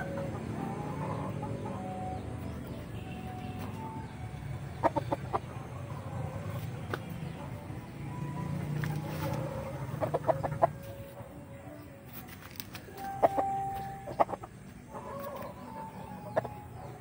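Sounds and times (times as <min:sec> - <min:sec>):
young rooster clucking and calling: 0:00.0 - 0:07.9, 0:08.7 - 0:11.8, 0:12.4 - 0:17.0.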